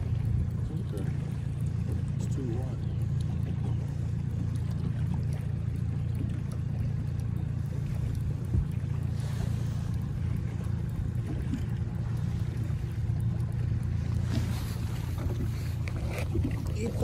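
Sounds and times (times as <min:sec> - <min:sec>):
outboard motor humming: 0:00.0 - 0:17.0.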